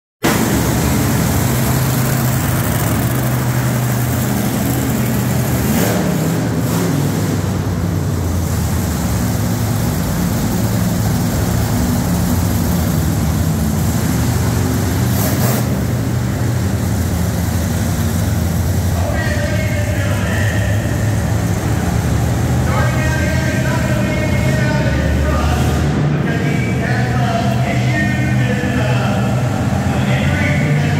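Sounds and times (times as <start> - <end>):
truck engine idling: 0.2 - 30.9.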